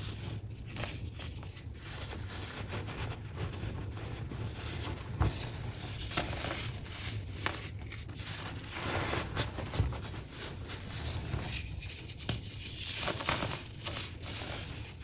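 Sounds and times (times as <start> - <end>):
baking soda crumbling and crackling: 0.0 - 15.0.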